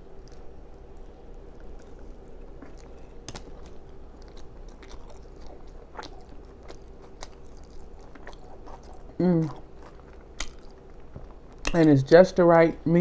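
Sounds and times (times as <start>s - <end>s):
person chewing with mouth smacking: 0.0s - 11.9s.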